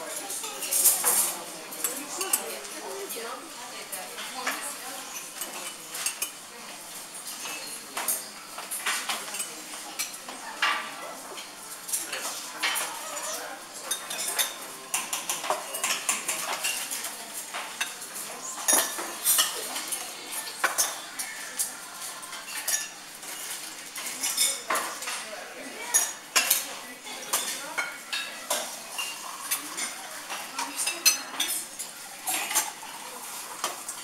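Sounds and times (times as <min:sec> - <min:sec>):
cutlery clinking on plates: 0:00.0 - 0:03.2, 0:03.9 - 0:34.0.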